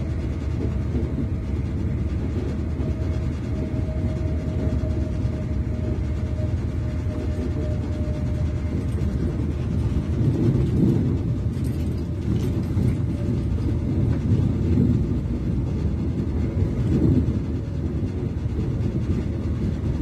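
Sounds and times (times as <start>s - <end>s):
train rumble inside carriage: 0.0s - 20.0s
wheels on rails: 0.0s - 20.0s.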